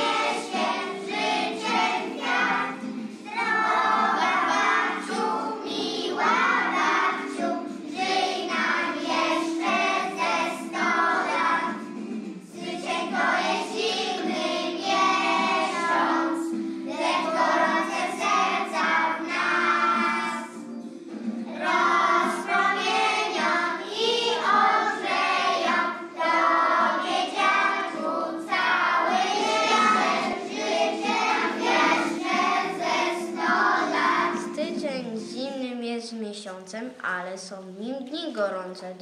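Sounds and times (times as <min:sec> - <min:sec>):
children singing: 0:00.0 - 0:34.8.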